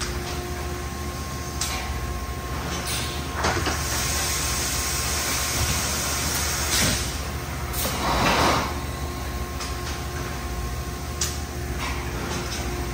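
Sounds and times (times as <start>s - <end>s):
industrial machine humming: 0.0s - 12.9s.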